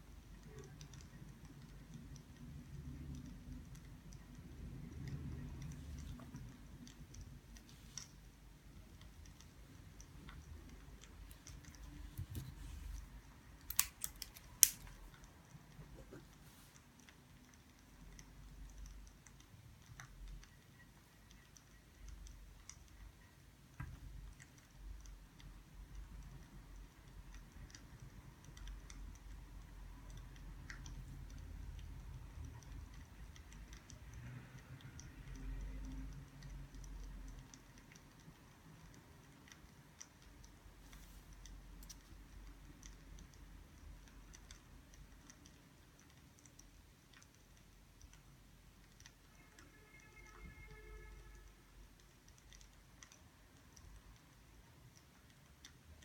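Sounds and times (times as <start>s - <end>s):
small clicks and ticks: 0.0s - 56.0s.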